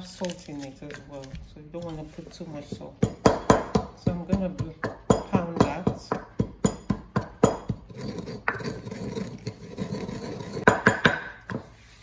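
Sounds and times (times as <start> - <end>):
pestle grinding and rubbing: 0.0 - 12.0
pestle knocking in wooden mortar: 1.4 - 11.7.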